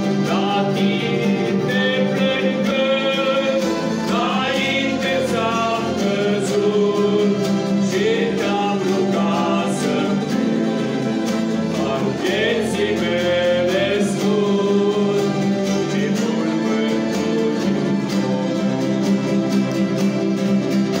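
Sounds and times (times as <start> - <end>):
mandolin ensemble and guitar playing: 0.0 - 21.0
people singing along: 0.0 - 21.0.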